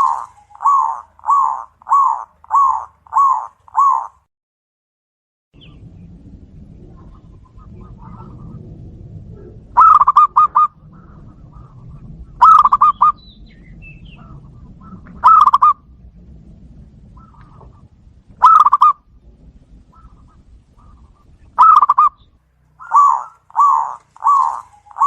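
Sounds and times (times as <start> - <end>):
doves cooing: 0.0 - 4.2, 6.6 - 25.0.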